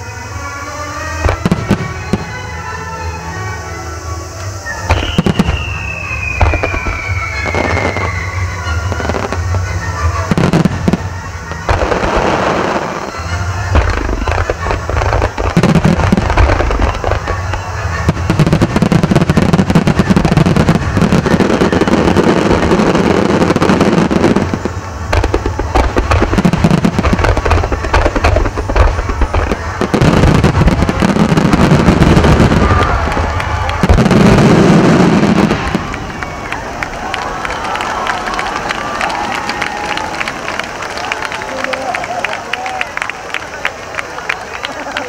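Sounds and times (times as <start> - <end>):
music playing: 0.0 - 39.3
fireworks booming and crackling: 0.1 - 3.2, 4.4 - 42.0.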